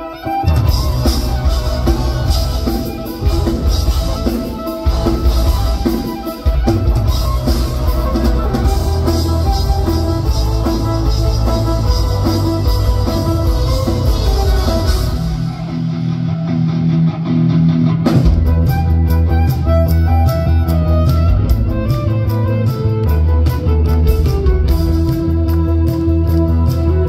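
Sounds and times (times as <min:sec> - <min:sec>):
pounding drum kit: 0:00.0 - 0:16.9, 0:17.9 - 0:27.0
electric violin: 0:00.0 - 0:27.0
live rock band instrumental: 0:00.0 - 0:27.0.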